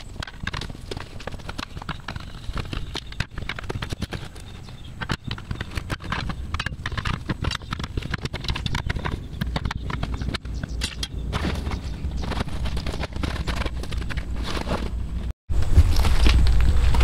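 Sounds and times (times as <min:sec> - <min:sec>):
scraping and shuffling on gravel: 0:00.0 - 0:10.4, 0:11.2 - 0:17.0
tire irons clanking on wheel rim: 0:00.0 - 0:15.2.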